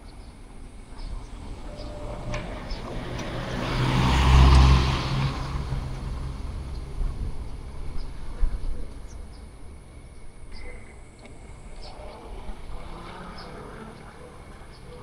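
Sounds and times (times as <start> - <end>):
vehicle passing by: 0.7 - 10.0, 11.5 - 15.0.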